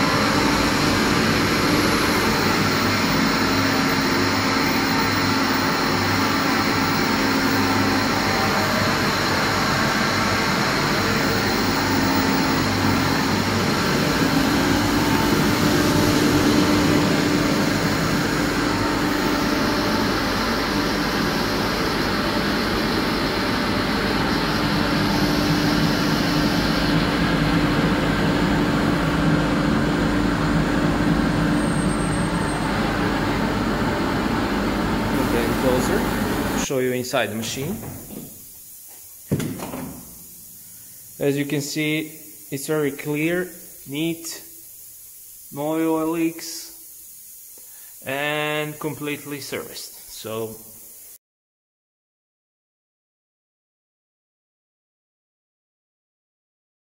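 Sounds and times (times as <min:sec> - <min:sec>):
air compressor humming: 0:00.0 - 0:51.1.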